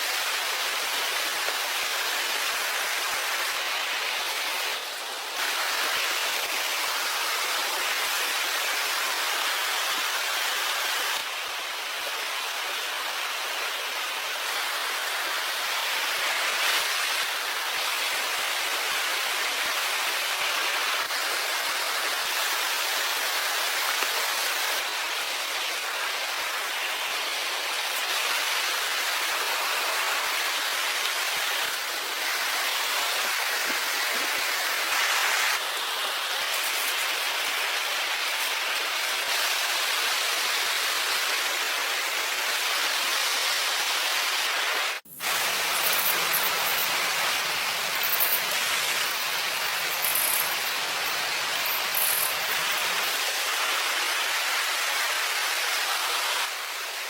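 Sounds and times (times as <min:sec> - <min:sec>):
rushing water hiss: 0:00.0 - 0:57.0.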